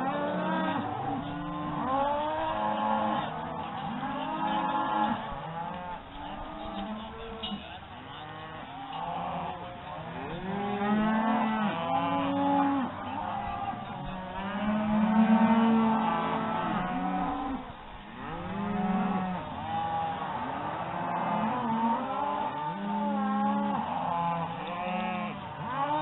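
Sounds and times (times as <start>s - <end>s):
cattle mooing and bawling: 0.0s - 26.0s.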